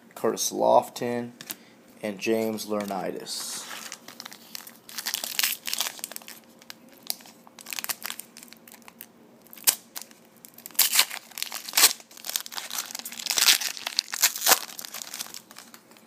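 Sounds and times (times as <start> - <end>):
foil wrapper crinkling: 2.8 - 16.0.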